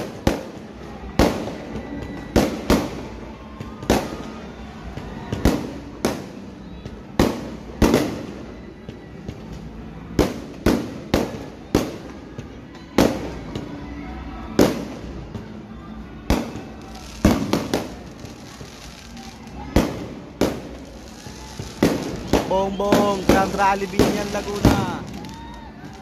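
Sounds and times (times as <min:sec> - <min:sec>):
fireworks bursting with echo: 0:00.0 - 0:26.0.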